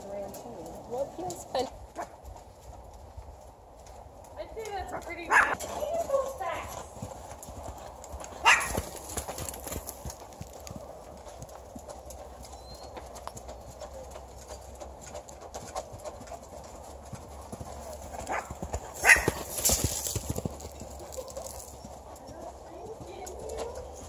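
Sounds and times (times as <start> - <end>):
hoofbeats on sand: 0.0 - 24.0.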